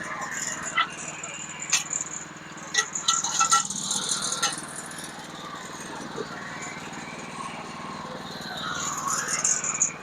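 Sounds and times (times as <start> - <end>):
sawmill engine running: 0.0 - 9.9.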